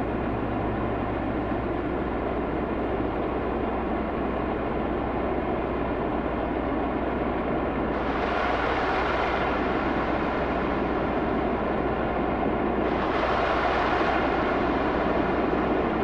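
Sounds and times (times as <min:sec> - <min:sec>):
mechanical rumble with low hum: 0:00.0 - 0:16.0.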